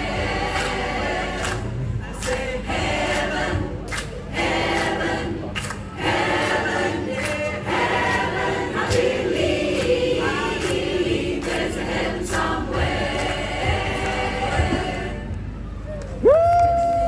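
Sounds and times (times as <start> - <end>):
choir singing: 0.0 - 15.3.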